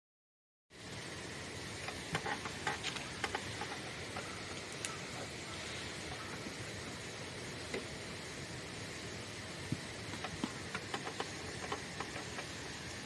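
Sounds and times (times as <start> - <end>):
fire popping: 0.8 - 13.0
wood fire crackling: 0.8 - 13.0.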